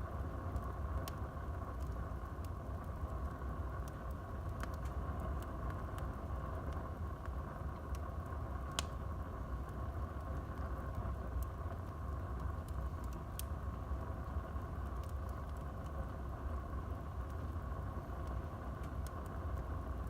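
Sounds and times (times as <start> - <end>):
fire crackling: 0.0 - 20.0
low rumble of fire flames: 0.0 - 20.0.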